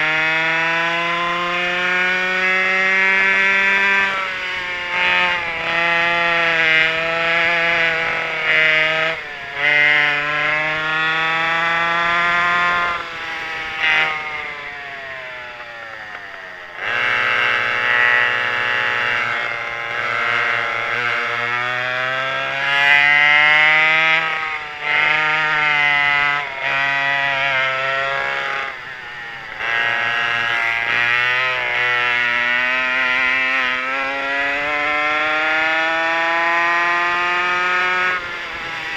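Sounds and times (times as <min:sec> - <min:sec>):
two-stroke kart engines revving: 0:00.0 - 0:38.9.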